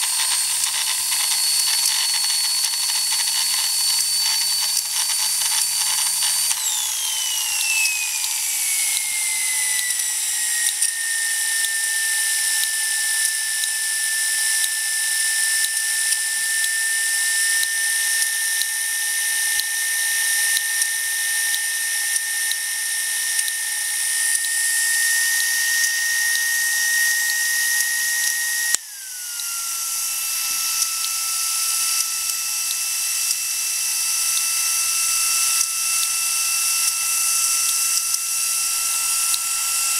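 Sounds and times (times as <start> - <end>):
model steam turbine whine: 0.0 - 39.9.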